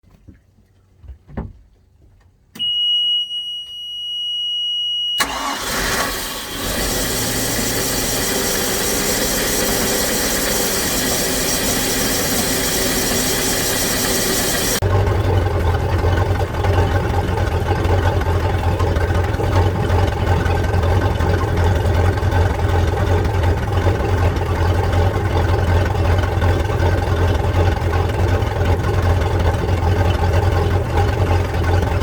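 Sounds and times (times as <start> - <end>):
boat engine starting and running: 5.2 - 32.0.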